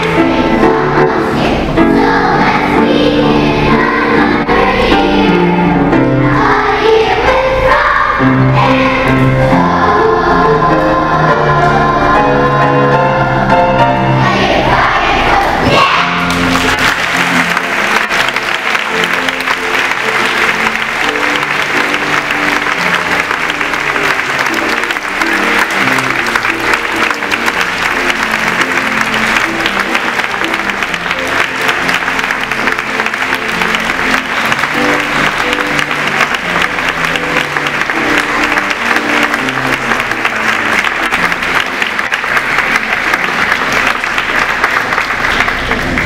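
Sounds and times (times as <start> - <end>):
audience applauding: 0.0 - 5.2, 14.3 - 46.0.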